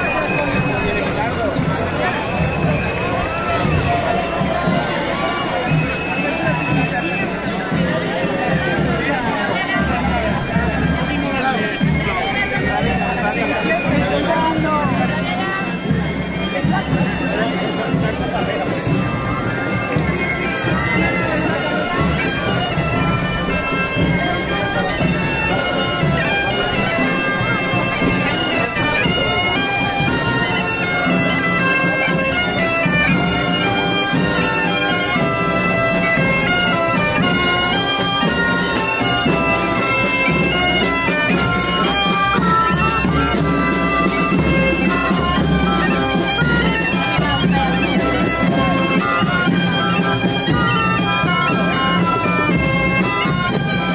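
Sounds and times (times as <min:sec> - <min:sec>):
shrill reed pipe melody: 0:00.0 - 0:53.9.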